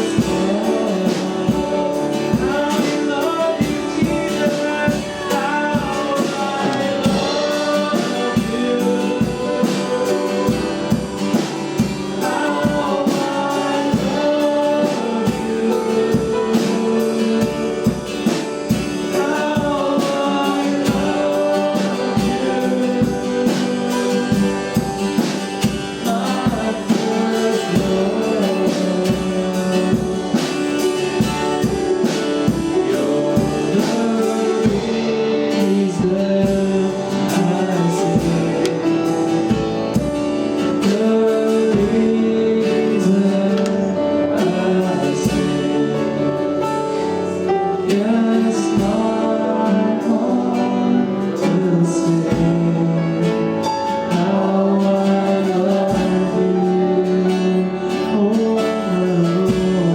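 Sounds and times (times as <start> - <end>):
worship song singing with band: 0.0 - 59.9.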